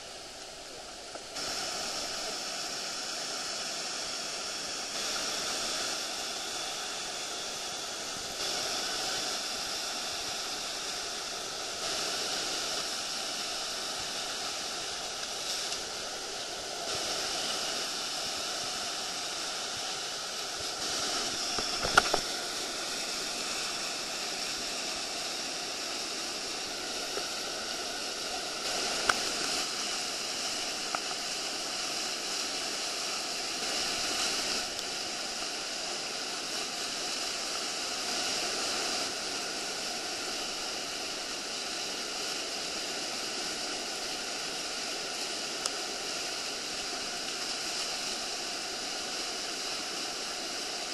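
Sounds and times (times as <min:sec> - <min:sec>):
whitewater rushing: 0:00.0 - 0:50.9.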